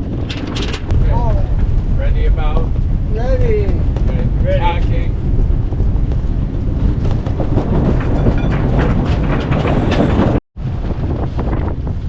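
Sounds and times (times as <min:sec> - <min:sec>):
wind blasting the microphone: 0:00.0 - 0:12.0
rapid irregular clatter: 0:00.2 - 0:10.4.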